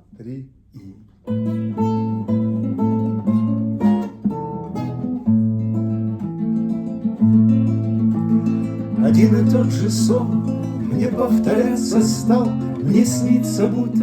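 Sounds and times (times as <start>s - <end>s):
acoustic guitar strumming: 1.2s - 14.0s.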